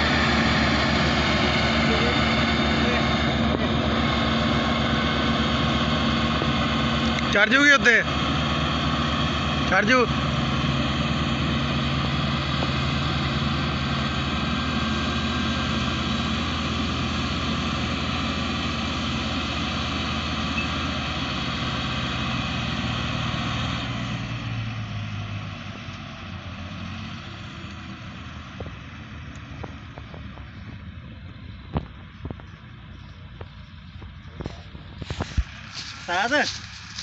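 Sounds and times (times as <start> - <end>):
diesel tractor engine under load: 0.0 - 37.0.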